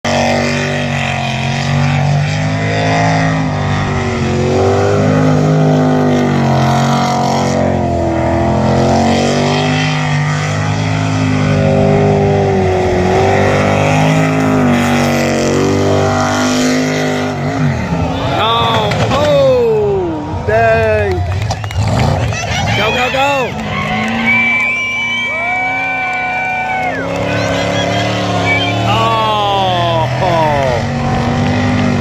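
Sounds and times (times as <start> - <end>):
boat engine revving: 0.0 - 32.0.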